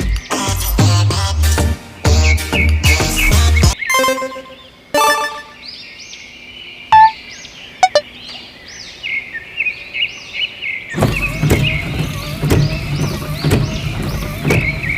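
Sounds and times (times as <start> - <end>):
birds chirping: 2.1 - 14.9.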